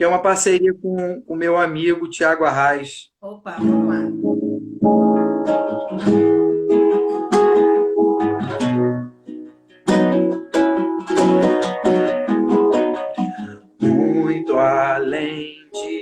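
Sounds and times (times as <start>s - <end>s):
acoustic guitar strumming chords: 0.0s - 1.5s, 3.5s - 16.0s.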